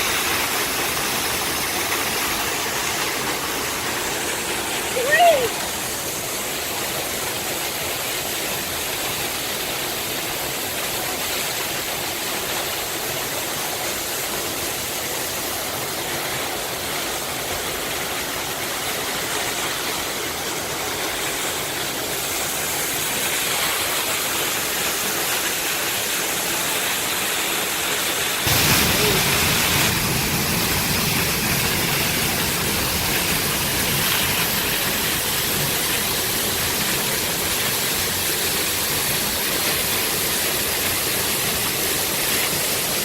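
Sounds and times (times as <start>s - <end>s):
waterfall roaring: 0.0s - 43.0s.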